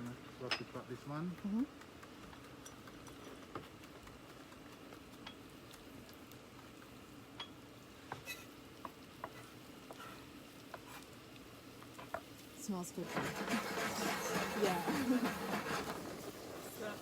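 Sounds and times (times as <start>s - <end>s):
onion and garlic sizzling: 0.0s - 17.0s.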